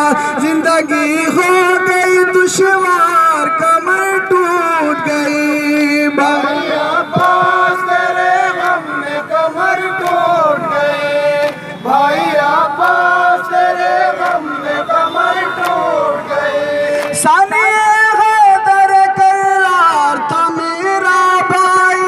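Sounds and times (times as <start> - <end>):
men chanting a lament: 0.0 - 22.0.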